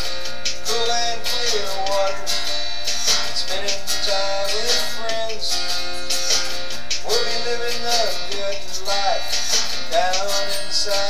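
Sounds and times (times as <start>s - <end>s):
acoustic guitar song: 0.0s - 11.0s.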